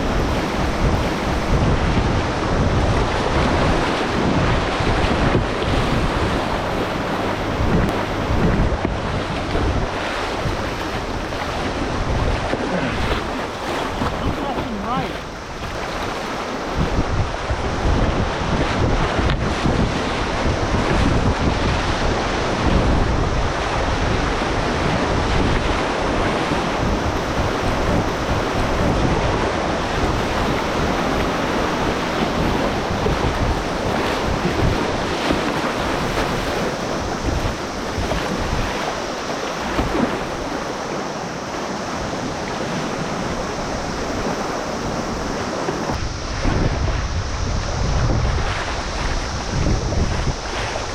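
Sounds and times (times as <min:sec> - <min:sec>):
river water rushing: 0:00.0 - 0:50.9
wind buffeting microphone: 0:00.0 - 0:50.9.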